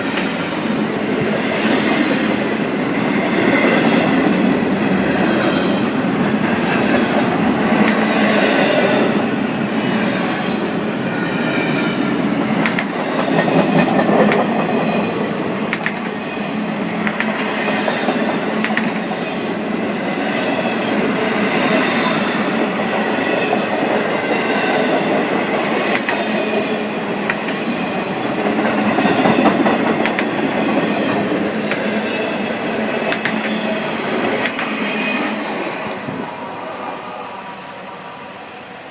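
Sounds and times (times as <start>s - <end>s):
freight train cars rumbling past: 0.0s - 38.9s.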